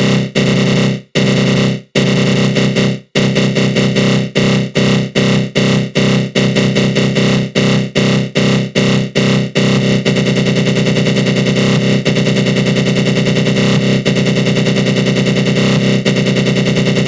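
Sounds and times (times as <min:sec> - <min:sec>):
harsh buzzing synth growl: 0:00.0 - 0:17.0.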